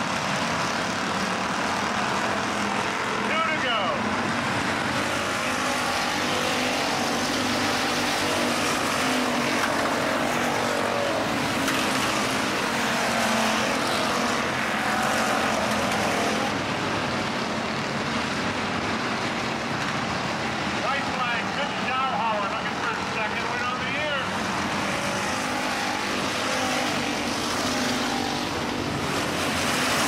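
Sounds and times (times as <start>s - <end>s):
race car engines passing: 0.0s - 30.0s.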